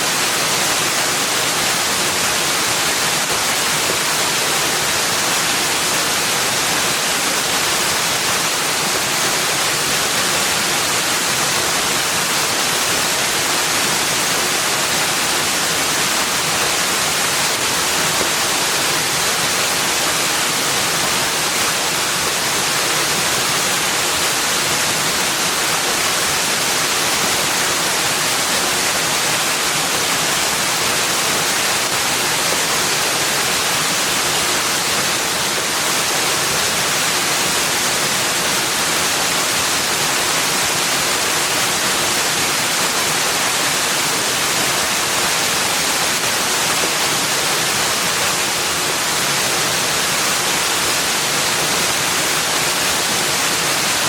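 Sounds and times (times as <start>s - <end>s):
rush of falling water: 0.0s - 54.0s.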